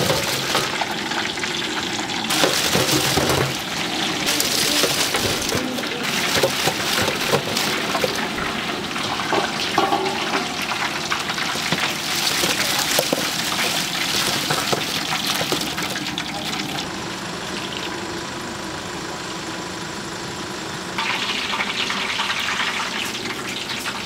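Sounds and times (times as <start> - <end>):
chicken frying in hot oil: 0.0 - 24.0.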